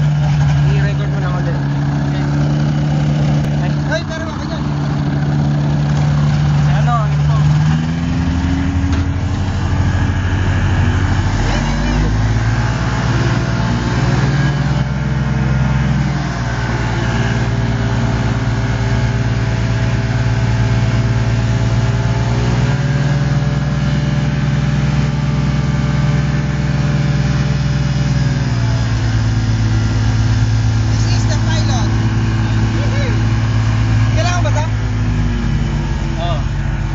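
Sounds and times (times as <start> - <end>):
propeller engine running: 0.0 - 36.9.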